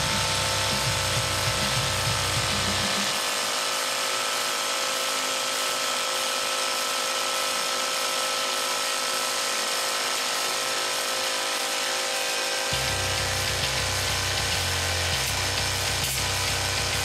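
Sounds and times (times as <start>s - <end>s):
small motor whirring: 0.0s - 17.0s.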